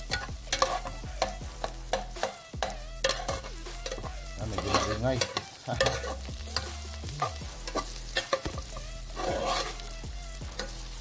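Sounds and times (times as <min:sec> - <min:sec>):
aromatics sizzling in hot oil: 0:00.0 - 0:11.0
spatula scraping a pot: 0:00.0 - 0:11.0.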